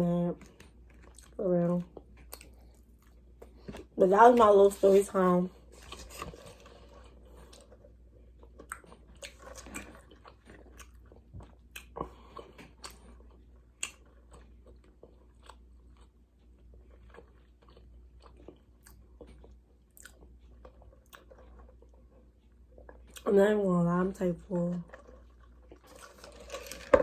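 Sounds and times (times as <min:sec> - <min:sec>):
low steady hum: 0:00.0 - 0:27.0
chewing and crunching: 0:00.2 - 0:27.0.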